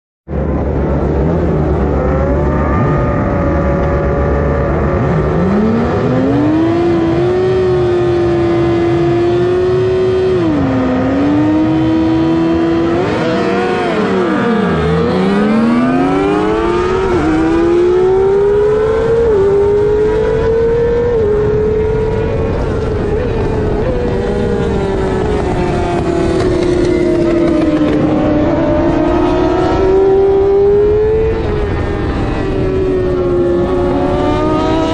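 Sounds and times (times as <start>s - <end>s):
other motorcycle engines: 0.3s - 34.9s
motorcycle engine revving hard: 0.6s - 34.9s.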